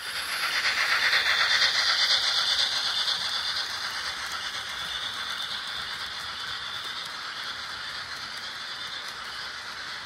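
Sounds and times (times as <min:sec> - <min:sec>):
model train clicking rattle: 0:00.0 - 0:10.0.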